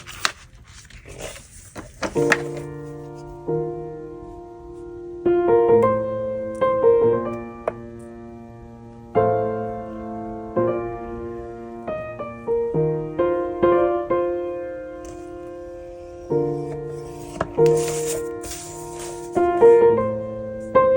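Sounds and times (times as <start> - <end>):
slow piano music: 2.2 - 20.9.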